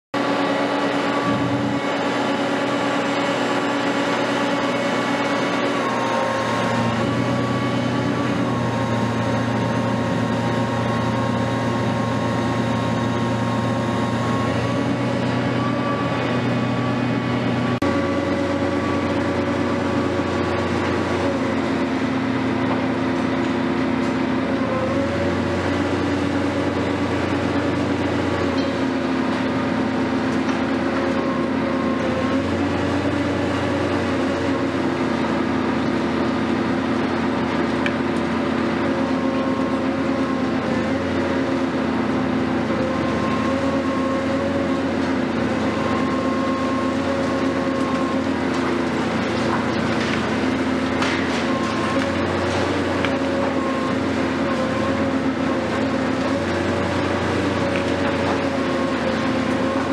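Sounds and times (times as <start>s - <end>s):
excavator engine droning with whine: 0.2s - 59.9s.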